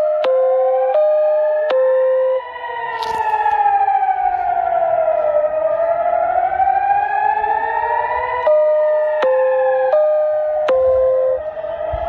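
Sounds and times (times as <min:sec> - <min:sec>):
air-raid siren wailing: 0:00.0 - 0:12.0
two-tone siren: 0:00.0 - 0:12.0.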